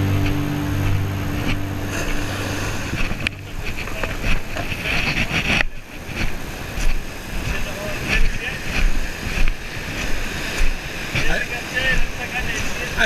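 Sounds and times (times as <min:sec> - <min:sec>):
sea surf: 0:00.0 - 0:13.0
wind on microphone: 0:00.0 - 0:13.0.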